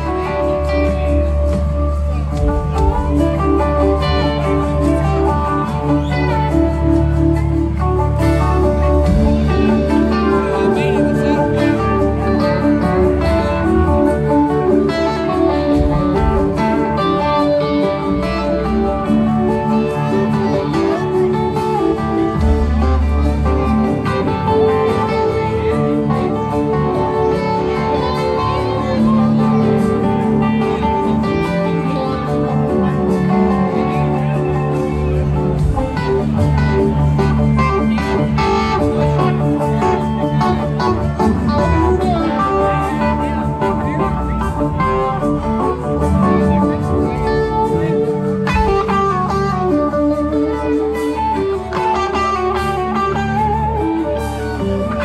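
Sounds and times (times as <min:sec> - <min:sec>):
electric guitar: 0:00.0 - 0:55.0
live rock band playing: 0:00.0 - 0:55.0.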